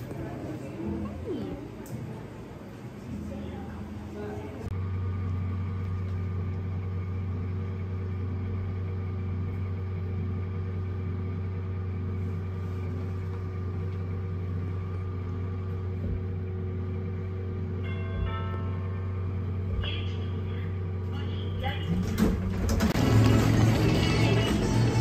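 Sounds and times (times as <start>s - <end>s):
elevator machine hum: 0.0s - 25.0s.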